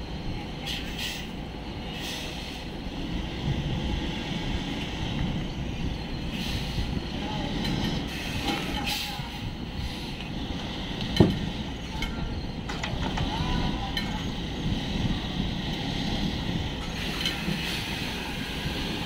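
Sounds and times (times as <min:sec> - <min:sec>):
diesel truck engine running low: 0:00.0 - 0:19.0.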